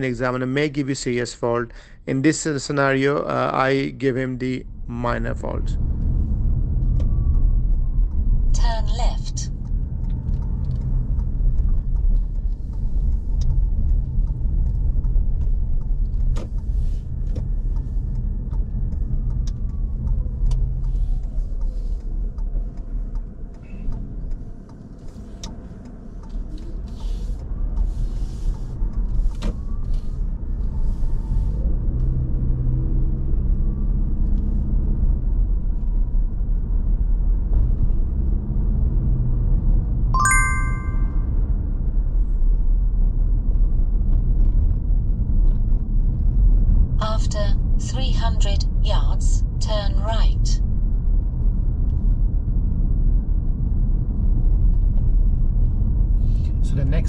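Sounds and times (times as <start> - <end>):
car engine and road noise: 0.0 - 40.1, 41.9 - 57.0.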